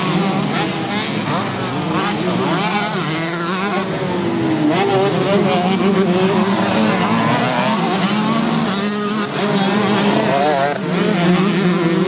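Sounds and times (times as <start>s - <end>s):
motocross bike engine revving: 0.0s - 12.0s
other motorbikes running: 0.0s - 12.0s.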